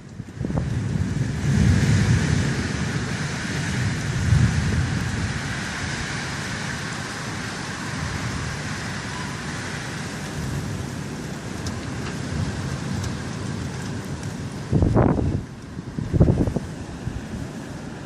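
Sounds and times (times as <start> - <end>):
rain: 0.0 - 18.0
storm wind: 0.0 - 18.0.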